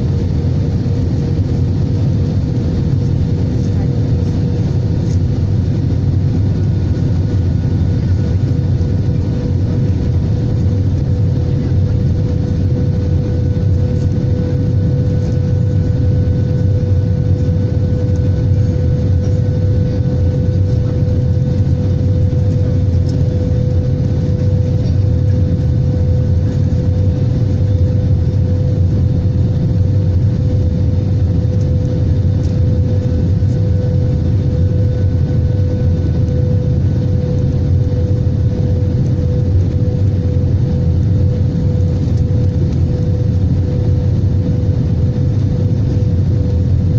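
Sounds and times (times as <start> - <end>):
airliner engines rumbling: 0.0 - 46.9
steady mid-pitched hum: 0.0 - 46.9.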